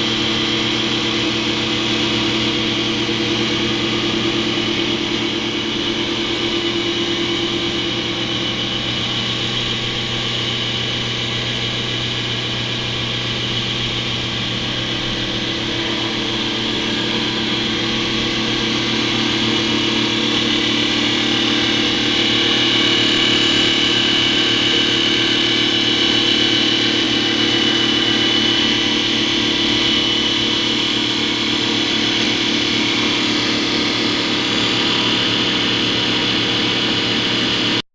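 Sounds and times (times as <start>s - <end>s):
lathe motor hum: 0.0s - 37.8s.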